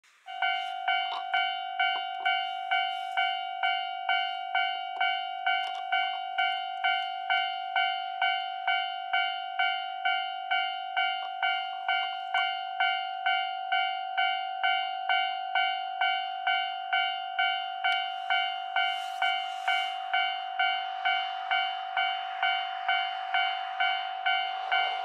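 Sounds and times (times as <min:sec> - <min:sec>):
level-crossing warning bell ringing: 0:00.2 - 0:25.0.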